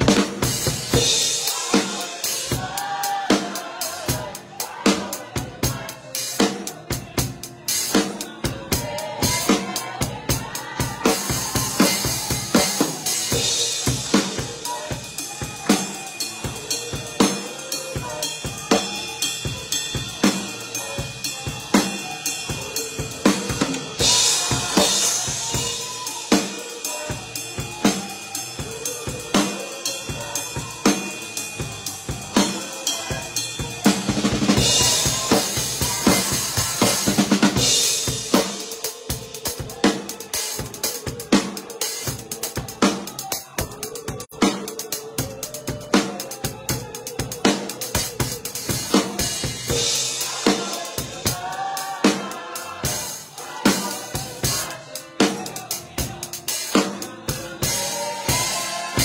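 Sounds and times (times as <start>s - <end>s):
drum kit groove: 0.0s - 59.0s.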